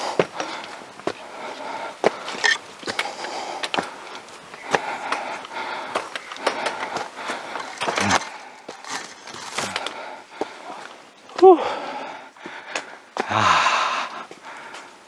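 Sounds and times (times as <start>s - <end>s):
footsteps on bush track: 0.0s - 15.0s.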